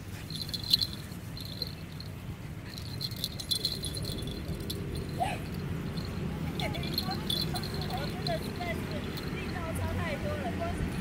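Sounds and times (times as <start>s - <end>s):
dog leash hardware jingling: 0.0s - 10.0s.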